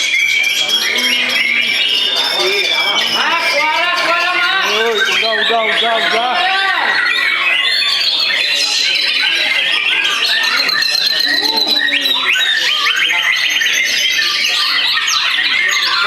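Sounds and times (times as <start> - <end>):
songbirds singing trills and whistles: 0.0 - 16.0.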